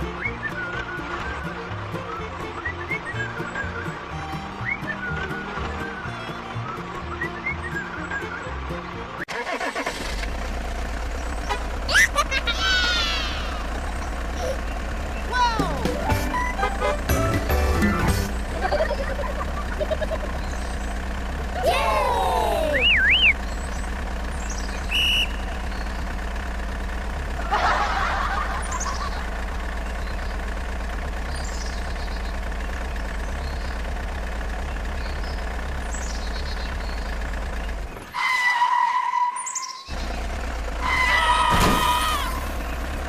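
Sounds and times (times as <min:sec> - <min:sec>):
low vehicle engine drone: 0:00.0 - 0:43.0.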